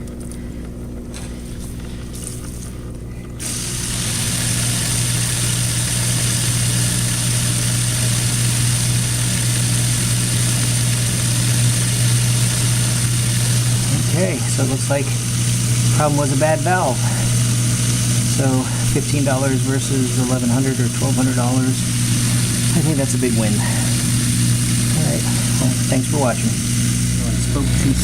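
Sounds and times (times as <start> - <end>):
dishwasher humming: 0.0 - 28.0
pump motor hum: 0.0 - 28.0.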